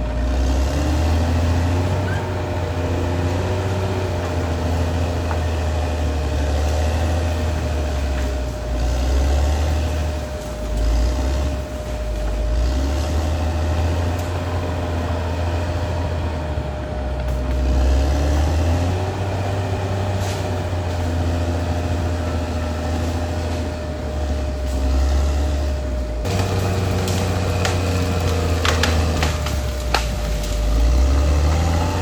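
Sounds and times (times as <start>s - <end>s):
bulldozer diesel engine rumbling: 0.0s - 32.0s.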